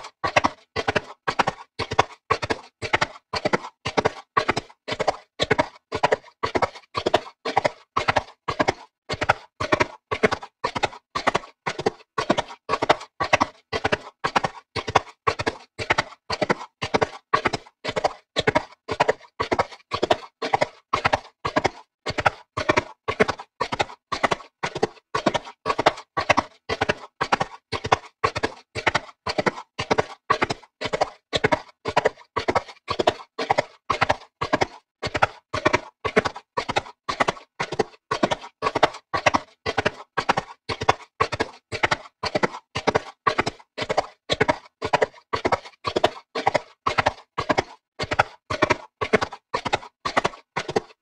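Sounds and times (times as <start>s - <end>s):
horse hooves running: 0.0s - 51.0s.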